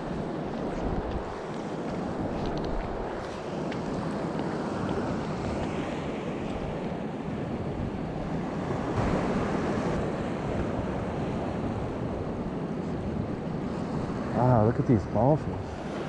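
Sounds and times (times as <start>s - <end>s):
small waves washing onto shore: 0.0s - 16.0s
wind buffeting microphone: 0.0s - 16.0s.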